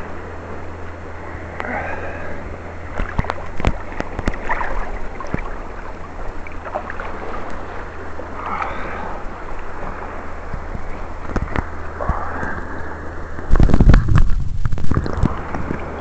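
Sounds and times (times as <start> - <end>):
sea water sloshing and splashing: 0.0 - 16.0.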